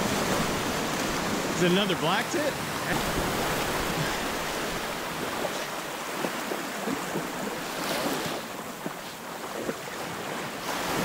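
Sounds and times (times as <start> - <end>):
surf washing over shallows: 0.0 - 11.0.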